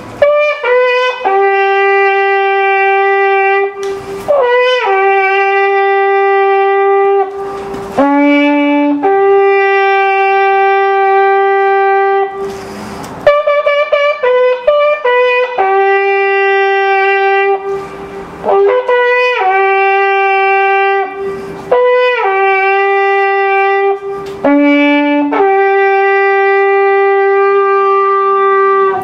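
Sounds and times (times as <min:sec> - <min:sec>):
wooden horn playing: 0:00.0 - 0:29.0.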